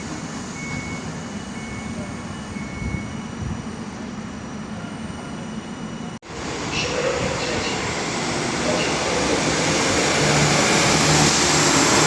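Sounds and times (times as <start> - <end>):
train rumbling and hissing: 0.0 - 12.0.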